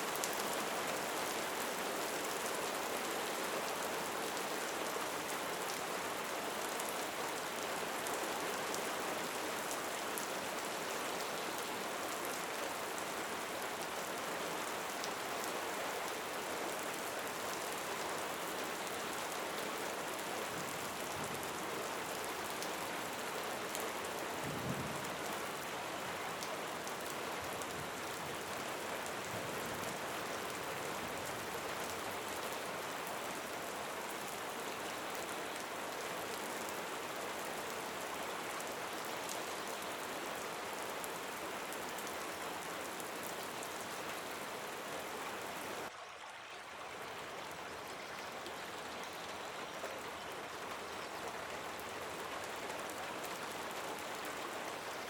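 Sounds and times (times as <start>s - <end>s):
rain falling: 0.0s - 46.0s, 46.7s - 55.0s.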